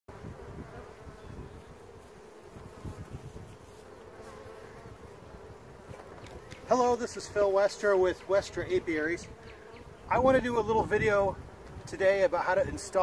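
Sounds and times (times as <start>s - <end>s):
bees buzzing: 0.1s - 13.0s.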